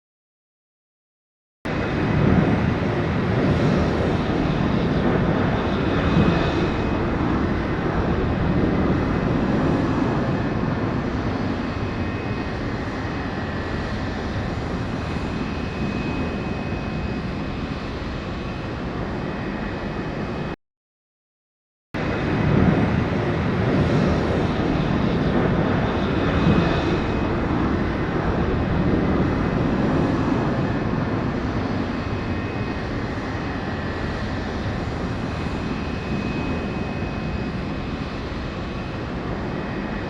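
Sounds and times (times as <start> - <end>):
aircraft engine rumble: 1.7 - 20.6, 22.0 - 40.0.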